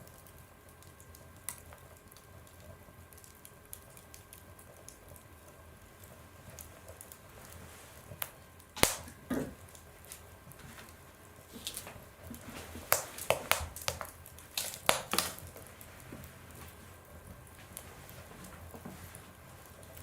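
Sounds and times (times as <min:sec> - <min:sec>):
faint fire hiss: 0:00.0 - 0:20.0
wood fire crackling: 0:00.0 - 0:20.0.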